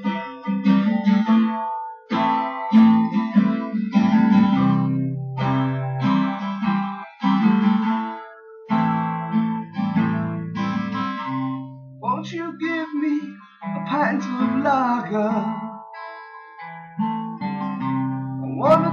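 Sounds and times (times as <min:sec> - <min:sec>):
guitar strumming chords: 0:00.0 - 0:18.9.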